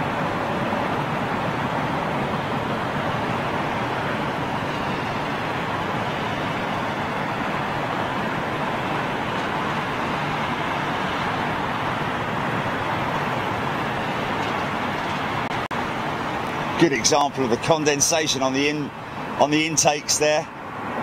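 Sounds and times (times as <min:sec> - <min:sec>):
distant jet roar: 0:00.0 - 0:21.0.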